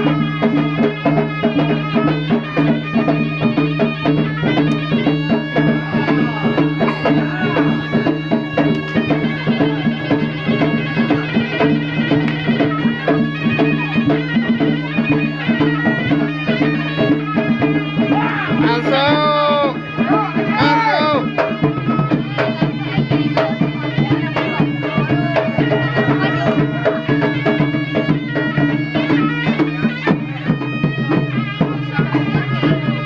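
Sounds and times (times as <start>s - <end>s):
hand drum strokes: 0.0s - 33.0s
reedy wind instrument melody: 0.0s - 33.0s.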